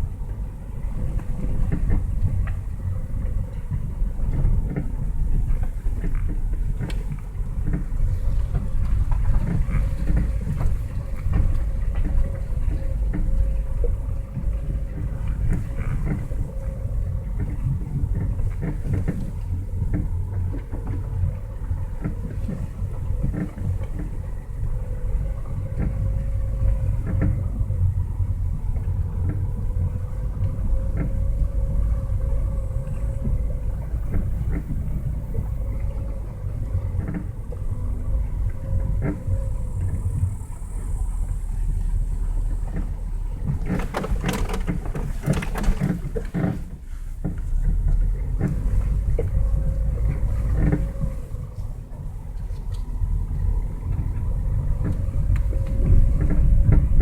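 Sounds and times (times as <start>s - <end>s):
road and tyre rumble: 0.0s - 57.0s
suspension clicks and creaks: 0.0s - 57.0s.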